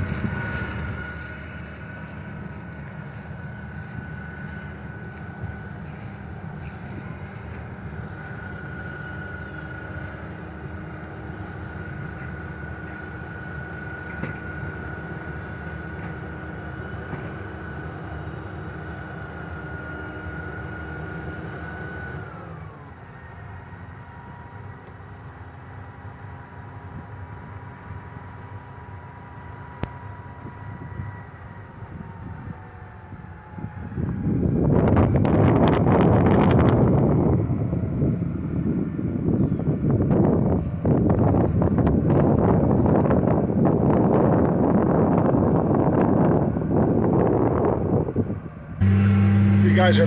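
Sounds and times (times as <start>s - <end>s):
harvester engine with high whine: 0.0s - 50.0s.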